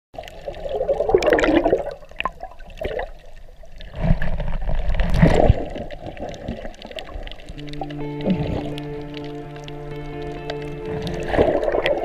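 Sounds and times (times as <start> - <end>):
water churning underwater: 0.2 - 12.0.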